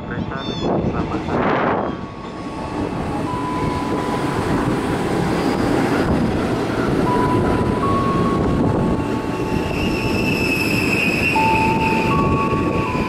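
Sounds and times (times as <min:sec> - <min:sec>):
train wheels rumbling on rails: 0:00.2 - 0:13.0.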